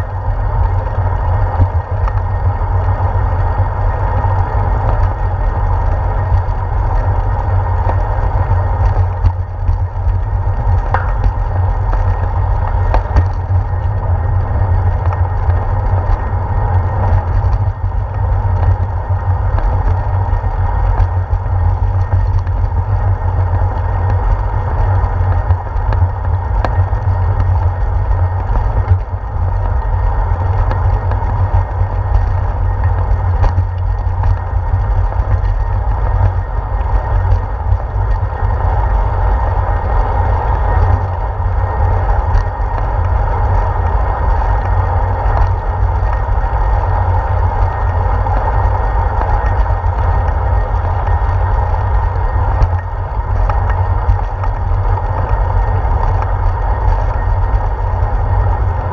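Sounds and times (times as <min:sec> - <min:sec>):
wind and road vibration rumble: 0:00.0 - 0:58.9.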